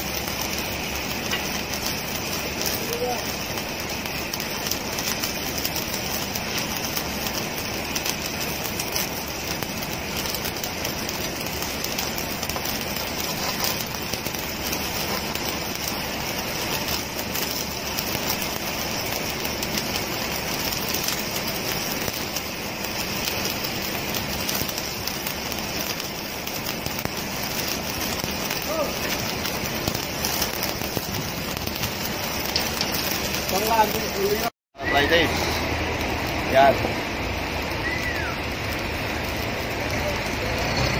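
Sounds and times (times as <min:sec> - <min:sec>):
welding arc crackling and sizzling: 0:00.0 - 0:40.9.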